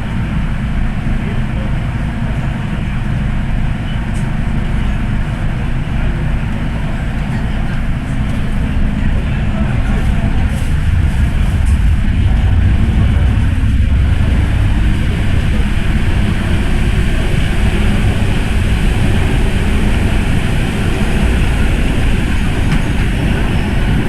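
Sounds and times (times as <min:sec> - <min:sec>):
train rumbling through tunnel: 0:00.0 - 0:24.0.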